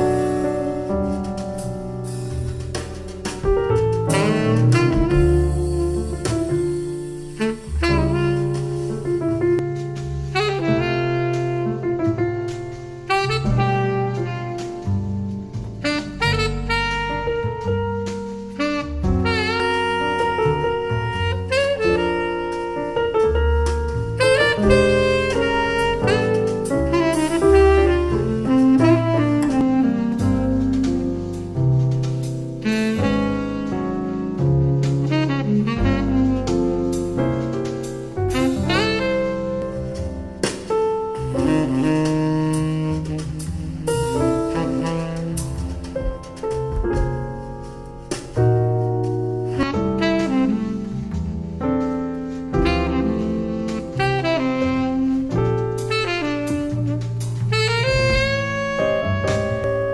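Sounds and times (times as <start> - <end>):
jazz music through speakers: 0.0 - 59.9.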